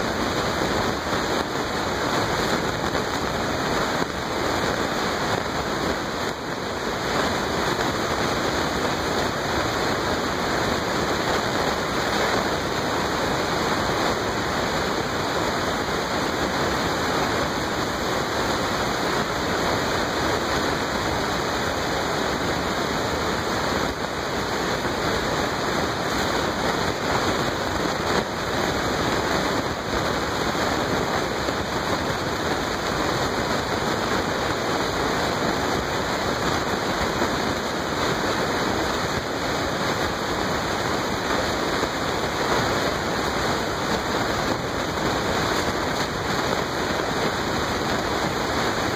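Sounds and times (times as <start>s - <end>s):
steady rushing noise: 0.0s - 48.9s.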